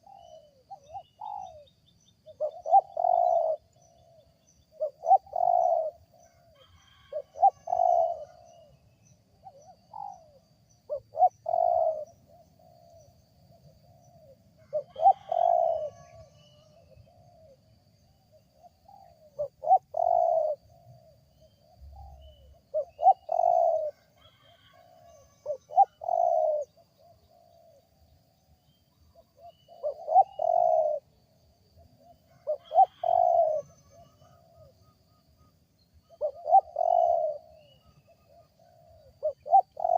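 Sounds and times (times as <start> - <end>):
small birds chirping: 0.0 - 6.6, 7.3 - 24.0, 24.8 - 31.1, 35.8 - 39.9
dove cooing: 0.0 - 17.7, 18.3 - 27.8, 29.2 - 31.2, 31.8 - 39.9.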